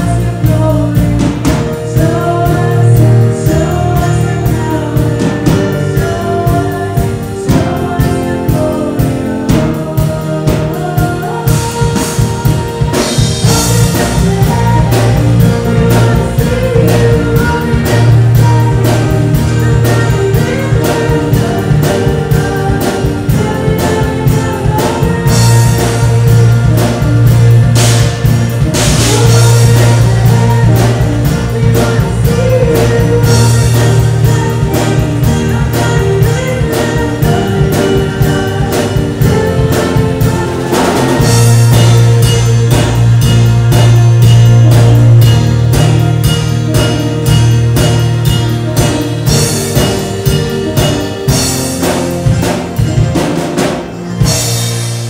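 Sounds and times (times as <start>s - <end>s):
bass line: 0.0s - 55.0s
drum kit beat: 0.0s - 55.0s
electric guitars: 0.0s - 55.0s
keyboard: 0.0s - 55.0s.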